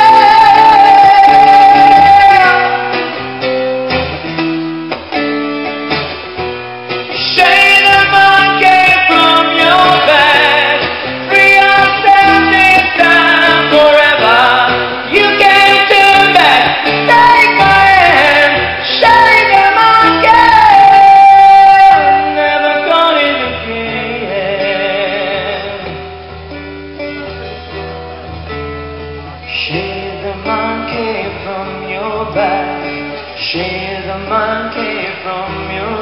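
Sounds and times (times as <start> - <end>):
man singing wordless notes: 0.0 - 3.3, 7.1 - 26.1, 29.4 - 36.0
acoustic guitar: 0.0 - 36.0.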